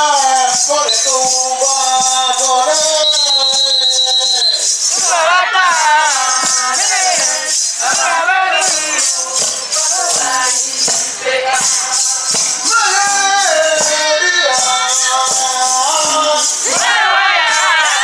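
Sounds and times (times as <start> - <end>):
group of voices singing: 0.0 - 18.0
shaken rattles: 0.0 - 18.0.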